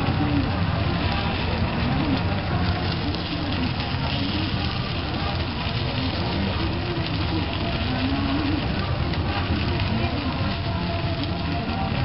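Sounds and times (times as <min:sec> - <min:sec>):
batter sizzling on a griddle: 0:00.0 - 0:12.0
low background rumble: 0:00.0 - 0:12.0.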